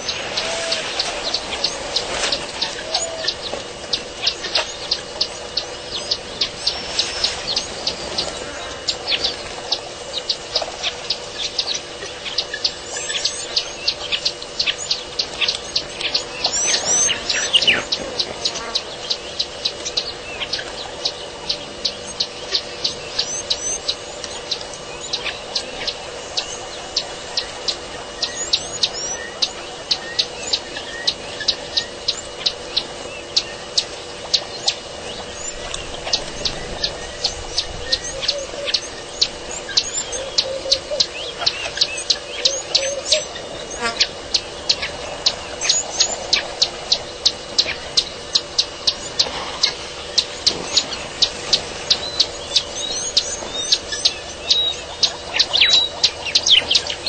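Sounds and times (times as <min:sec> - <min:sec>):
bird chirping: 0:00.0 - 0:57.0
birds warbling: 0:00.0 - 0:57.0
faint steady hum: 0:00.0 - 0:57.0.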